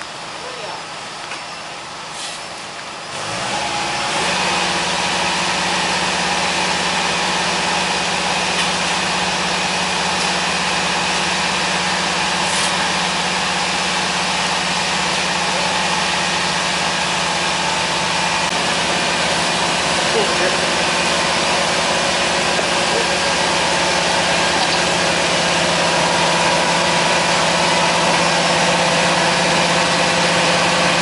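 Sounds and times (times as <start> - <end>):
machinery engine droning: 0.0 - 31.0.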